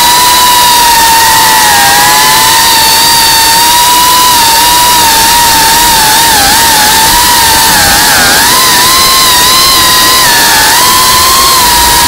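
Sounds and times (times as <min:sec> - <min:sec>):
drone motors whining: 0:00.0 - 0:12.0
rush of wind and prop wash: 0:00.0 - 0:12.0.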